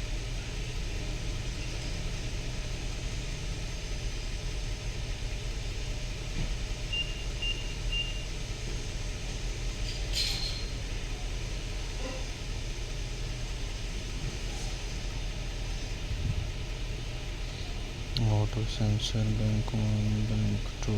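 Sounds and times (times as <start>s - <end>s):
car engine idling with misfire: 0.0s - 20.9s.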